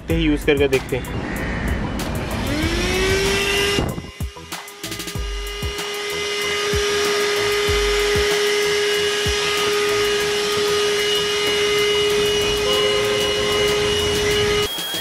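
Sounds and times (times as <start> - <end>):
vacuum cleaner whining: 2.3 - 15.0.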